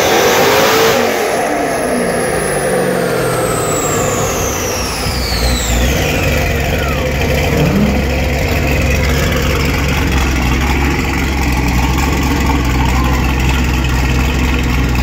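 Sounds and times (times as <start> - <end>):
car engine idling: 1.2 - 15.0.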